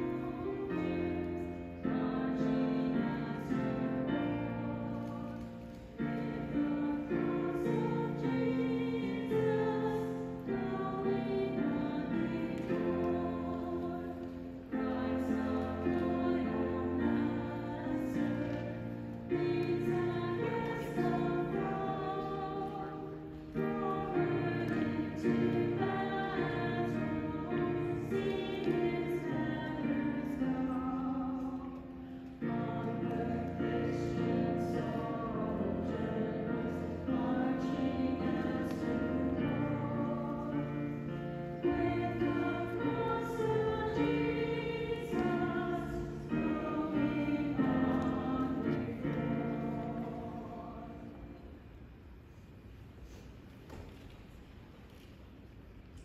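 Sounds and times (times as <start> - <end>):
choir singing: 0.0 - 51.7.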